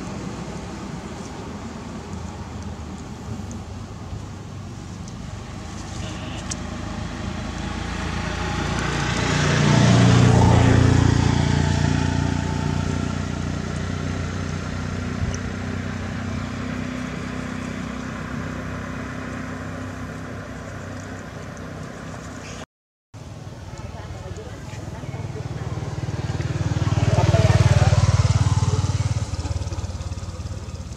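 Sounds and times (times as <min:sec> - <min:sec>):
vehicle engine passing by: 0:04.6 - 0:22.6, 0:23.6 - 0:30.9.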